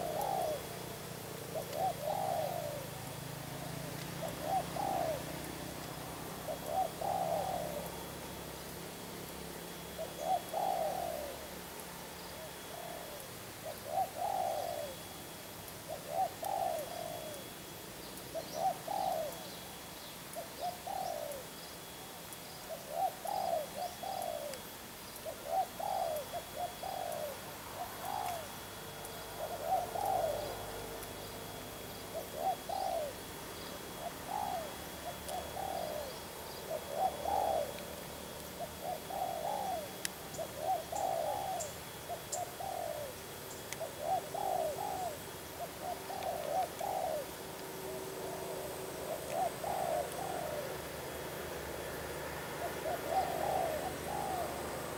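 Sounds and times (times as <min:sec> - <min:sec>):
dove cooing: 0:00.0 - 0:54.9.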